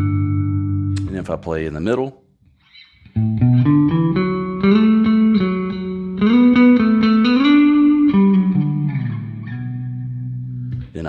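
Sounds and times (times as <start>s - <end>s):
baritone bass guitar plucked notes: 0.0s - 1.4s, 3.1s - 11.0s.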